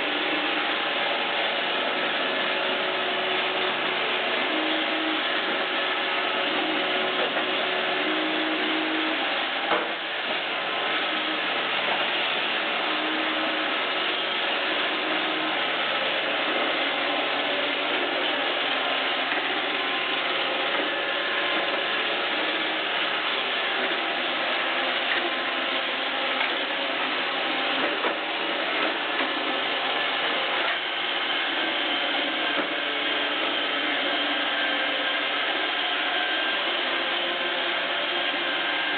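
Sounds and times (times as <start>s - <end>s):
robot vacuum whirring: 0.0s - 38.9s.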